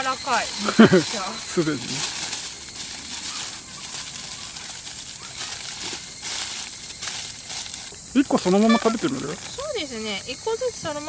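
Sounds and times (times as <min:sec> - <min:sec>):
aluminium foil crinkling: 0:00.0 - 0:10.8.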